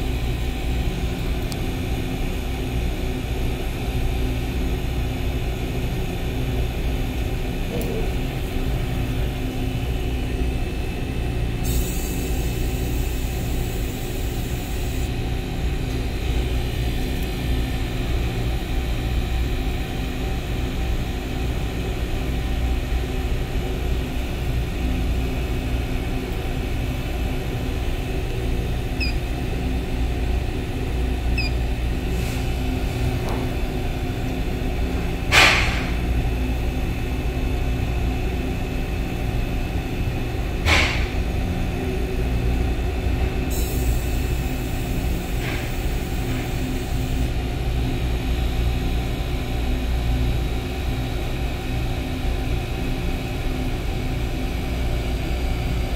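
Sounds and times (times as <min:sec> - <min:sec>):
refrigeration unit humming: 0:00.0 - 0:55.9.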